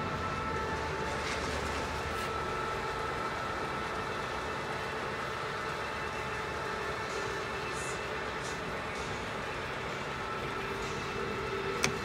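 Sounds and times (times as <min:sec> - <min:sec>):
machinery hum with whining tones: 0:00.0 - 0:12.0.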